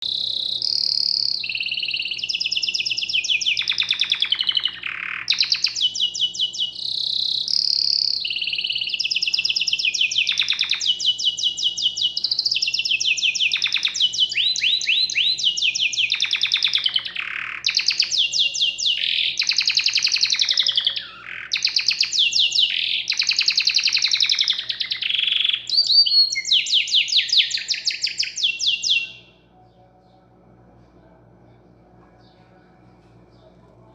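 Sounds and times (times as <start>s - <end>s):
songbird trilling and whistling: 0.0s - 29.4s.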